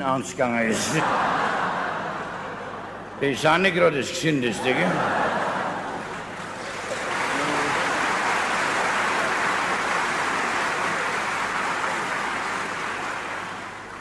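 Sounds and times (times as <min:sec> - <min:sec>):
audience laughing and clapping: 0:00.5 - 0:03.2, 0:04.5 - 0:14.0.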